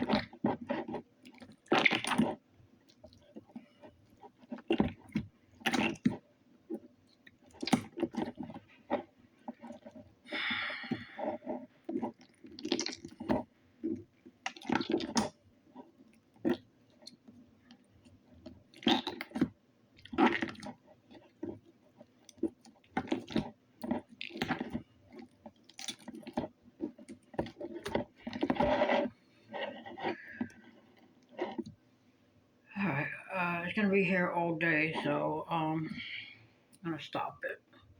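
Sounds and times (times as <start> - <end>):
slime squelching: 0.0 - 31.8.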